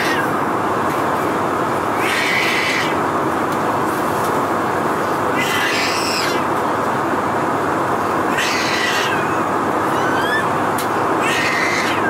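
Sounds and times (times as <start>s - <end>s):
airplane cabin noise: 0.0s - 12.0s.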